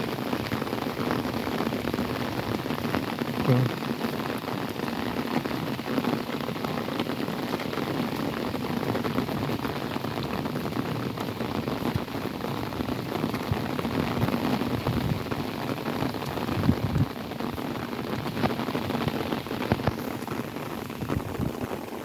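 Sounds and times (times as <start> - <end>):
rain falling on an umbrella: 0.0 - 22.0.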